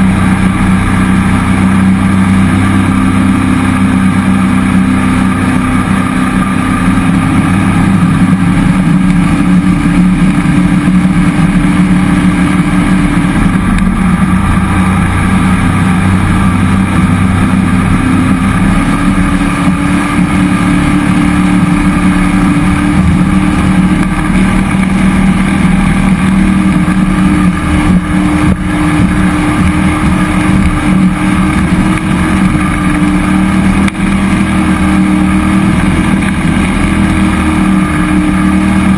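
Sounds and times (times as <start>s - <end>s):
boat engine running hard: 0.0s - 38.9s.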